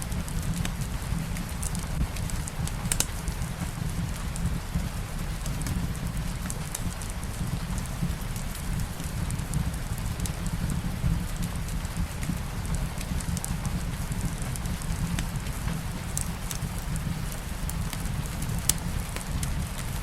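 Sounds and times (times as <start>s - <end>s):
fireplace fire crackling: 0.0s - 20.0s
light rain falling: 0.0s - 20.0s.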